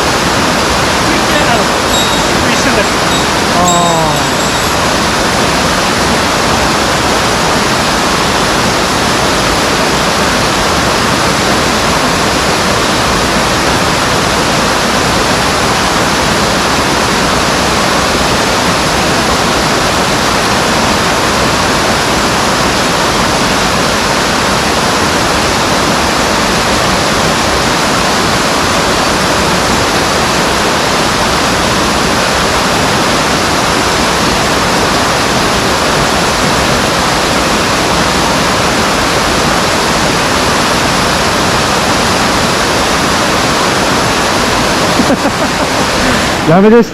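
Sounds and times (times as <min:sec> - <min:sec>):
mountain stream rushing: 0:00.0 - 0:46.9.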